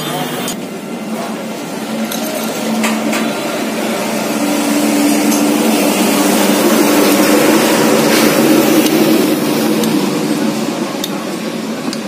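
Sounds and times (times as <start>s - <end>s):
motor drone: 0.0s - 1.0s, 1.8s - 12.0s.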